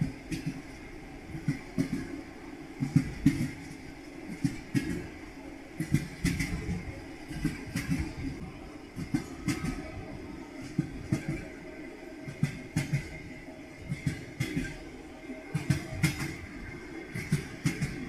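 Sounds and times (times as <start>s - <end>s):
train wheels clattering over joints: 0.0s - 2.2s, 2.8s - 18.0s
train rumbling: 0.0s - 18.0s.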